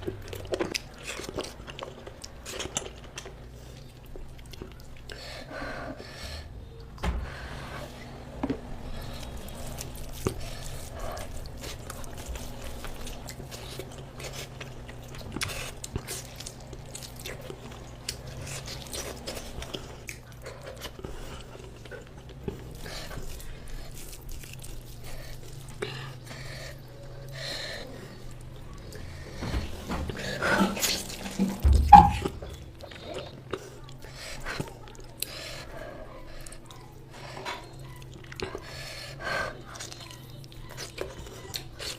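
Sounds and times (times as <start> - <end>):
person chewing food: 0.0 - 5.5, 8.5 - 41.9
low steady hum: 0.0 - 41.9.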